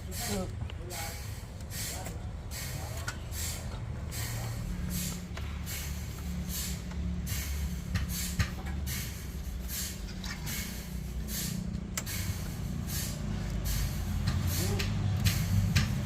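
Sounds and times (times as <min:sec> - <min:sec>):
short hissing bursts: 0:01.0 - 0:15.7.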